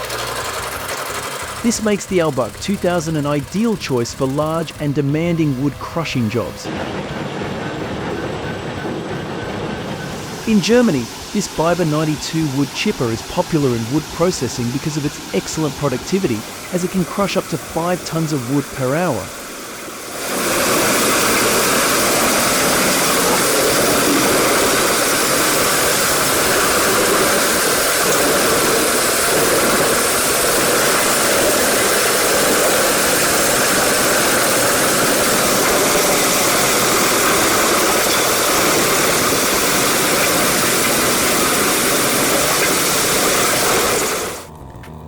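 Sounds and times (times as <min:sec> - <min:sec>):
engine hum: 0:00.0 - 0:45.0
wood chipper running: 0:00.0 - 0:45.0.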